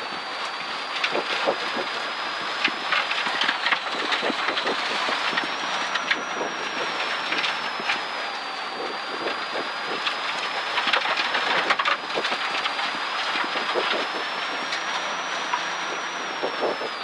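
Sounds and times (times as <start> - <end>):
car engine high whine: 0.0 - 17.0.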